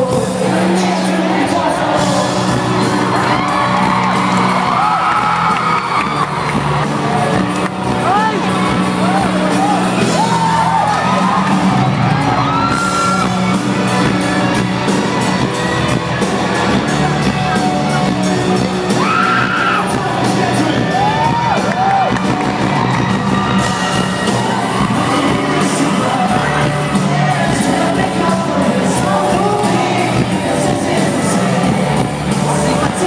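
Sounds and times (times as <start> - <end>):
crowd whooping and yelling: 0.0 - 33.0
live pop-rock band with singer: 0.0 - 33.0.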